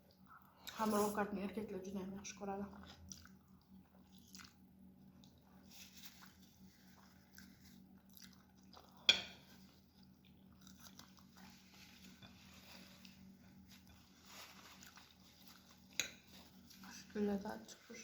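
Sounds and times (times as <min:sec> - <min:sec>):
chewing noodles: 0:02.7 - 0:17.2.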